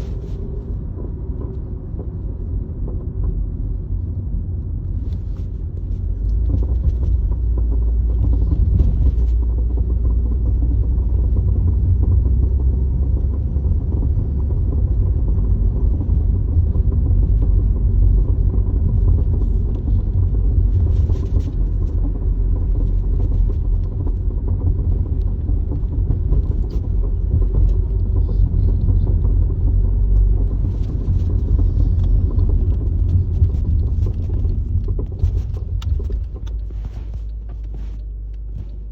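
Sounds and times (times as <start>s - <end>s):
car road noise rumble: 0.0s - 38.9s.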